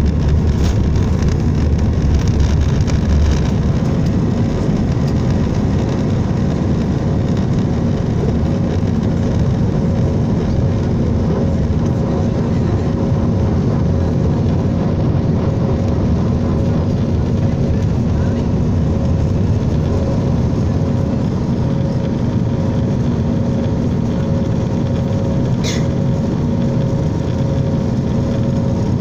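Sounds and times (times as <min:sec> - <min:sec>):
jet engine noise in cabin: 0:00.0 - 0:29.0.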